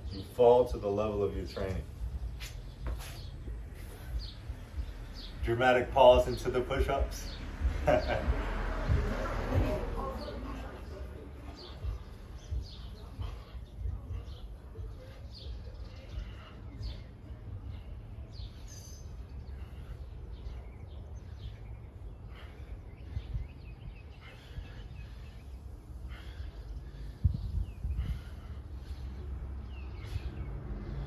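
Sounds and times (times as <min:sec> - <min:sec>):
low outdoor rumble: 0:00.0 - 0:31.0
small birds chirping: 0:00.0 - 0:31.0.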